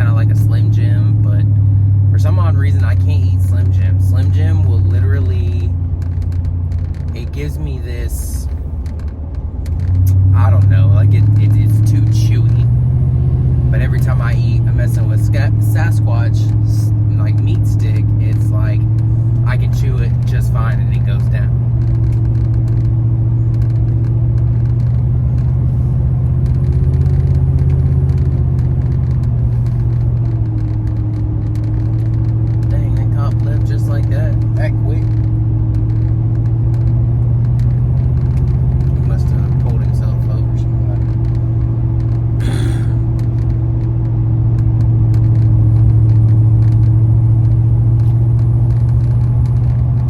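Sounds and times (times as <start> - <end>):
car cabin drone: 0.0 - 50.0.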